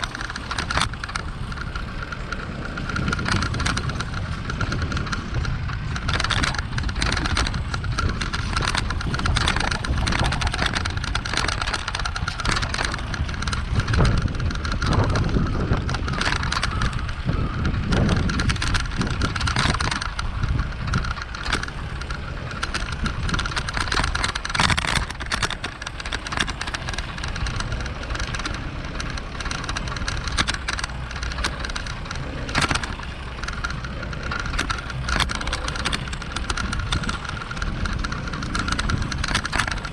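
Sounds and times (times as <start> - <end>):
bicycle rattles and clicks: 0.0 - 39.9
bicycle rolling rumble: 0.0 - 39.9
wind noise: 0.0 - 39.9.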